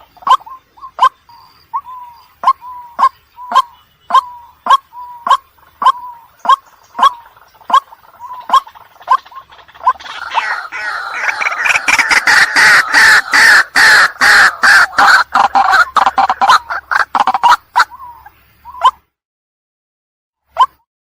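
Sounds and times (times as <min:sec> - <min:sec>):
bird giving harsh repeated calls: 0:01.8 - 0:19.0.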